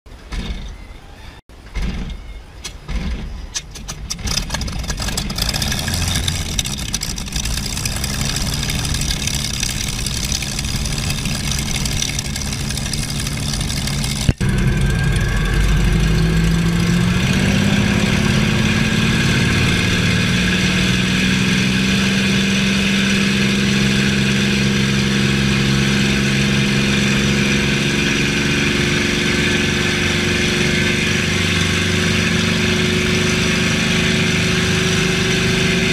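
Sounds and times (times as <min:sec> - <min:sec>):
piston aircraft engine running: 0:01.6 - 0:35.9.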